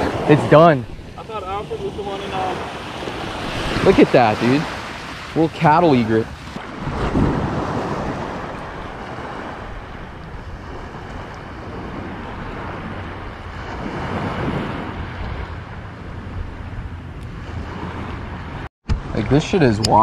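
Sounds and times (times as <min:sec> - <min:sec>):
small waves washing in: 0:00.0 - 0:18.7
wind buffeting microphone: 0:00.0 - 0:20.0.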